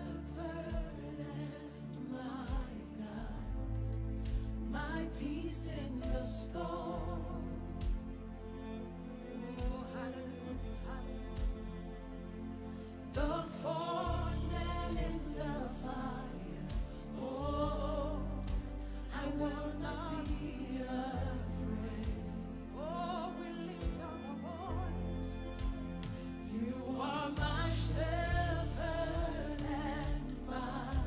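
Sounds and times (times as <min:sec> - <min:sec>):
gospel singing with vibrato: 0:00.0 - 0:08.1, 0:13.1 - 0:31.0.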